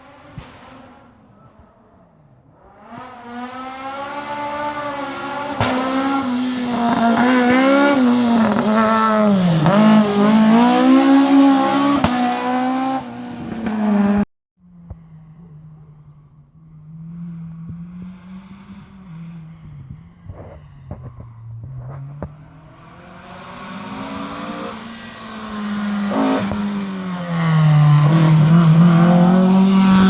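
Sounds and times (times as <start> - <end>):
rally car engine at full throttle: 0.0 - 30.0.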